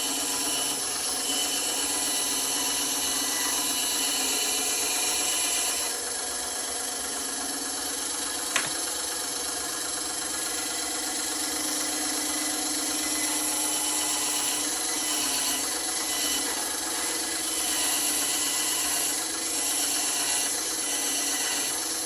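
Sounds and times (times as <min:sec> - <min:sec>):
bandsaw running: 0:00.0 - 0:22.0.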